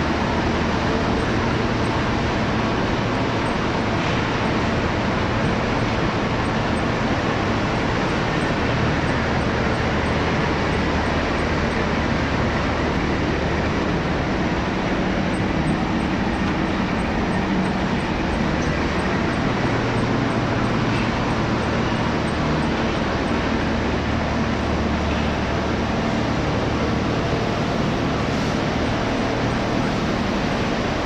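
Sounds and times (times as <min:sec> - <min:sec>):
belt conveyors running: 0:00.0 - 0:31.0.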